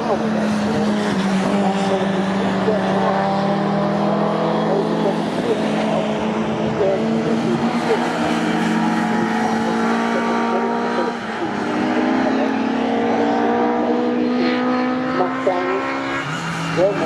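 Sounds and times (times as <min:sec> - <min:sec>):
racing car engines running: 0:00.0 - 0:17.0.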